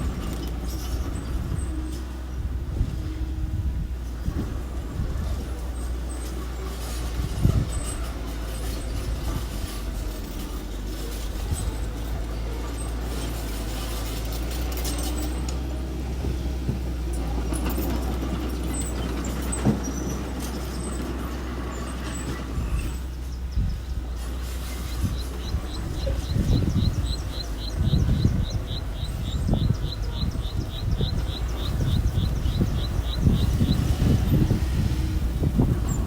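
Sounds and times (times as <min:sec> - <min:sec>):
earthmoving machine engine running: 0:00.0 - 0:36.0.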